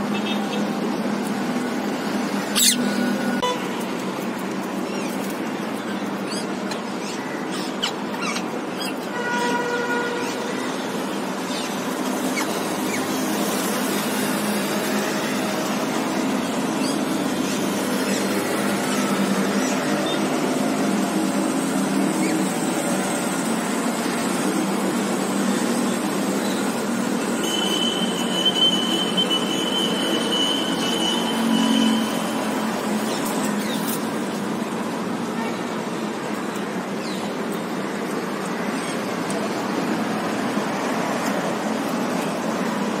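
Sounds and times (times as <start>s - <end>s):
city traffic: 0.0s - 43.0s.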